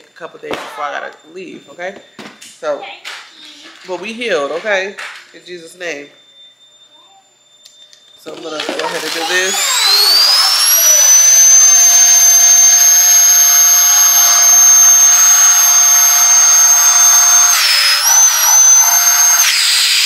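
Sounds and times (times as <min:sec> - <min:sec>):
electric vacuum high whine: 0:00.0 - 0:20.0.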